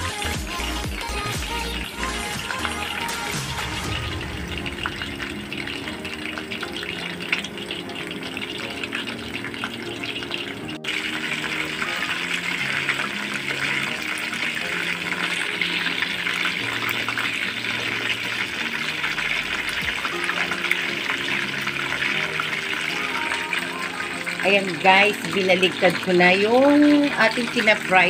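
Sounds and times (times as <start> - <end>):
chicken deep-frying sizzle: 0.0 - 28.0
soft background music: 0.0 - 28.0.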